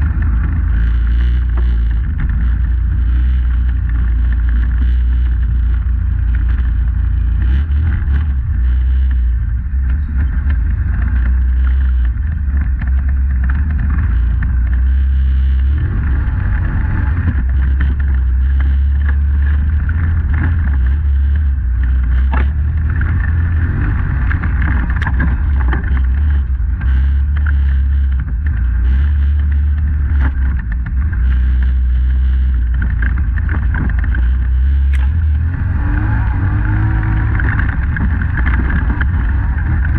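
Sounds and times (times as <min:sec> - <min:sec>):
atv engine droning: 0:00.0 - 0:39.9
wind noise on microphone: 0:00.0 - 0:39.9.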